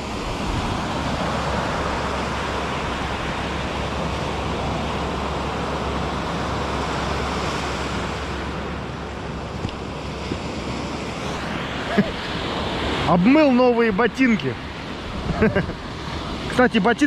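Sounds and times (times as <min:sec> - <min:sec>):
waves breaking on beach: 0:00.0 - 0:17.0
wind: 0:00.0 - 0:17.0.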